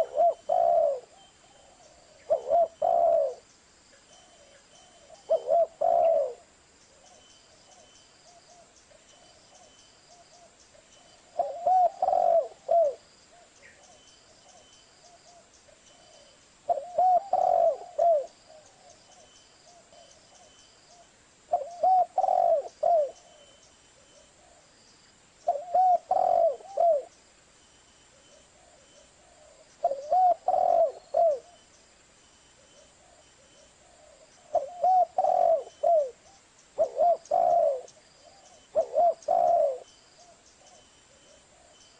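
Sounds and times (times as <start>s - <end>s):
dove cooing: 0.0s - 3.4s, 4.2s - 8.7s, 9.4s - 24.7s, 25.4s - 27.2s, 28.1s - 31.7s, 32.6s - 41.8s.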